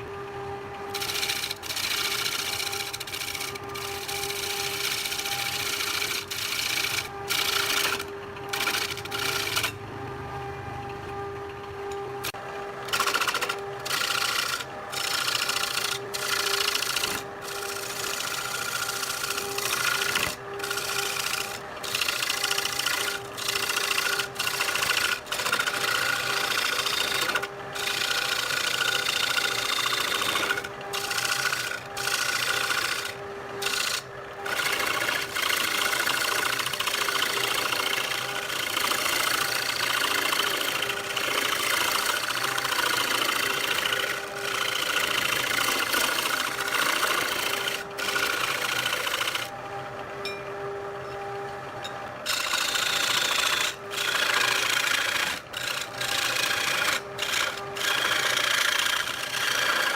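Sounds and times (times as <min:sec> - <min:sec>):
lathe motor hum: 0:00.0 - 0:59.9
tool scraping spinning wood: 0:00.0 - 0:59.9.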